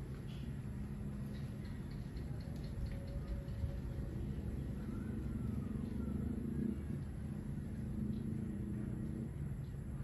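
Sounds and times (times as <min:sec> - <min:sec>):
low motor rumble: 0:00.0 - 0:10.0.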